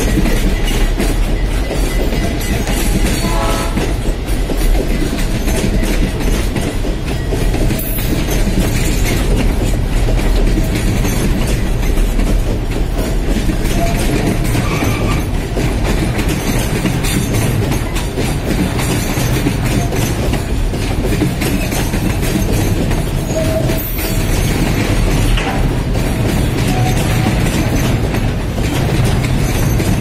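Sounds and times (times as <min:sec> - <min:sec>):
clickety-clack over rail joints: 0:00.0 - 0:30.0
train wheels rumbling on rails: 0:00.0 - 0:30.0.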